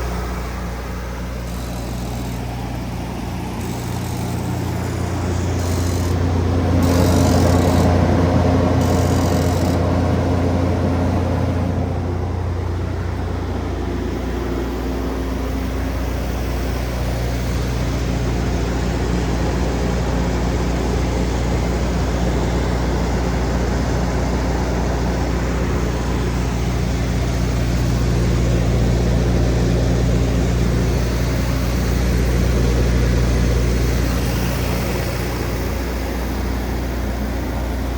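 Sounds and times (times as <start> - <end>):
diesel generator running: 0.0 - 37.9.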